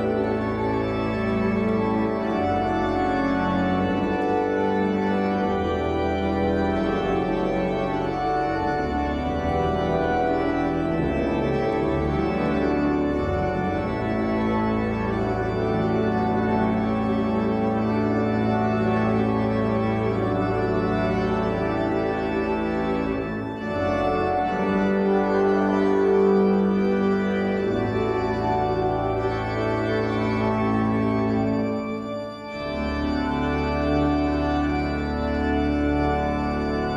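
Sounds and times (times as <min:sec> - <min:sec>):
organ playing slow chords: 0:00.0 - 0:36.9.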